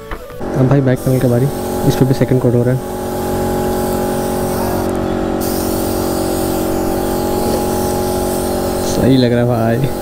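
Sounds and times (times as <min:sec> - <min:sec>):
spray gun hissing: 0:00.4 - 0:10.0
steady hum: 0:00.4 - 0:10.0.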